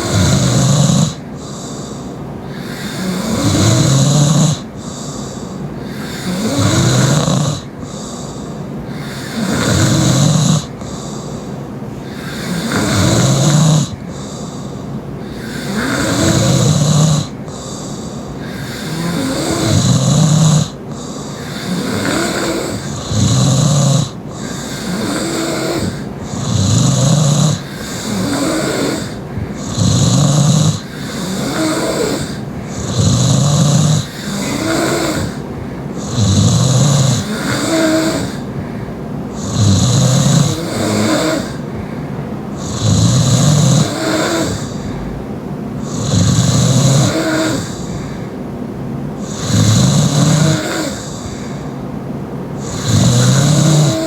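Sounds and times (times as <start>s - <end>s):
woman snoring heavily: 0.0s - 45.2s, 45.8s - 48.4s, 49.2s - 51.8s, 52.6s - 54.0s
soft breathing: 0.0s - 54.0s.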